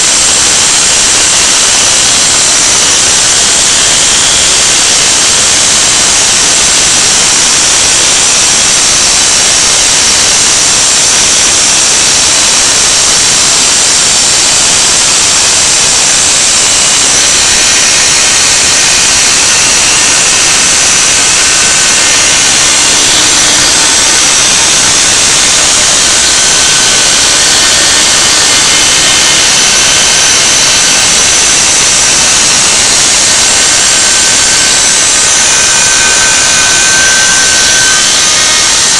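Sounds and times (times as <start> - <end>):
spindle motor whine: 0.0 - 38.9
vacuum nozzle rushing noise: 0.0 - 38.9.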